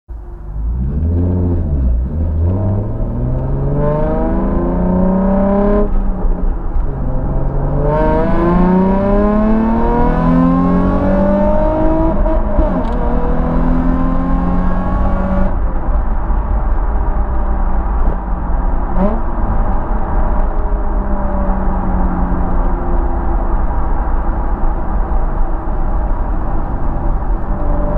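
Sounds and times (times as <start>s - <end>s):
car engine accelerating through gears: 0.2s - 27.9s.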